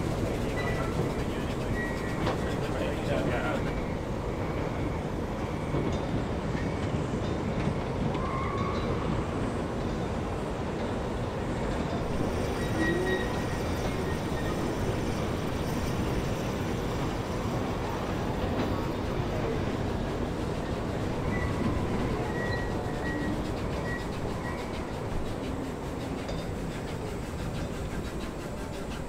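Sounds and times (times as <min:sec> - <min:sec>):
steam wagon mechanical din: 0:00.0 - 0:09.3, 0:11.8 - 0:29.0.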